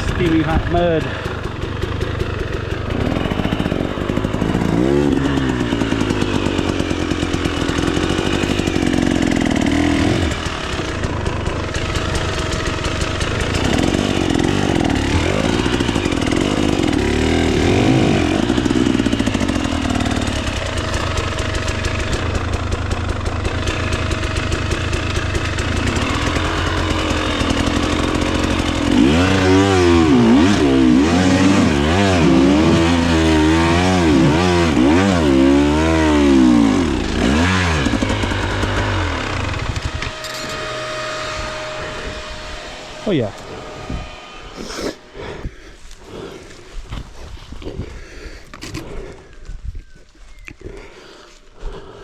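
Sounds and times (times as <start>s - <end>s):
dirt bike engine revving: 0.0s - 46.7s.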